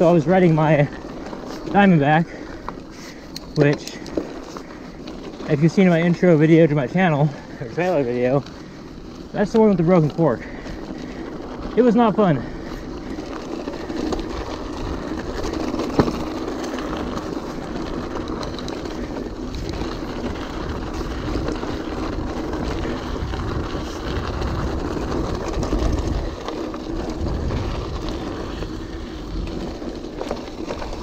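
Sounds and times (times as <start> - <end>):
bike rattling: 0.0 - 31.0
bike tire noise on rocky trail: 0.0 - 31.0
wind rumbling on microphone: 0.0 - 31.0.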